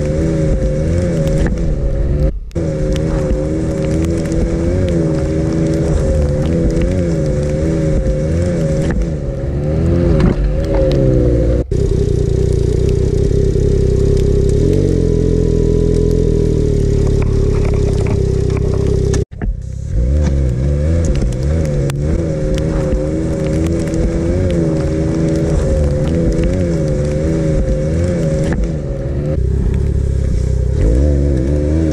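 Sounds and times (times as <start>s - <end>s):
snowmobile engine revving and idling: 0.0s - 31.9s.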